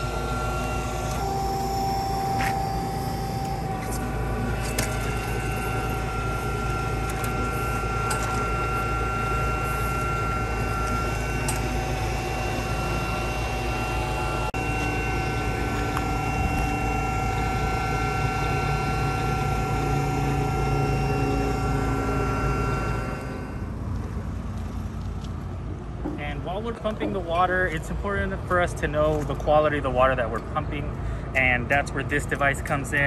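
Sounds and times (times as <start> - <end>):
hydraulic machine hum with whine: 0.0 - 33.0.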